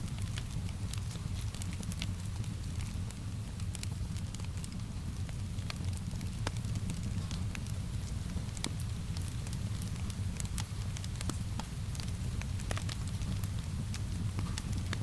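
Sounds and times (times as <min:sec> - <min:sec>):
soft hiss of rain: 0:00.0 - 0:15.0
wood fire crackling: 0:00.0 - 0:15.0.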